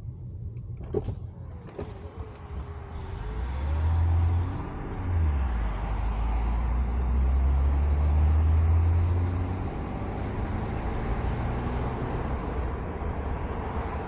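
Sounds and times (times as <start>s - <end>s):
car exhaust drone: 0.0s - 14.0s.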